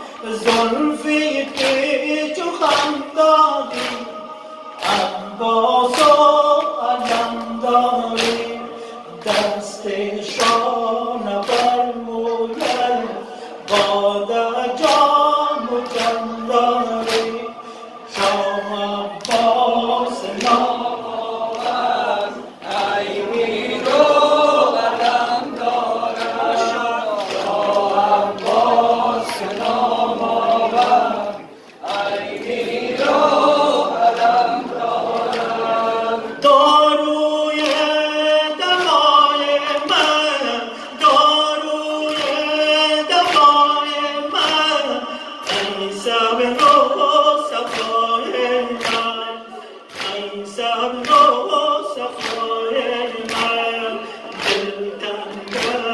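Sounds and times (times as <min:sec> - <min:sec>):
man singing into a microphone: 0:00.0 - 0:25.7, 0:35.6 - 0:55.9
crowd of men singing along: 0:00.0 - 0:55.9.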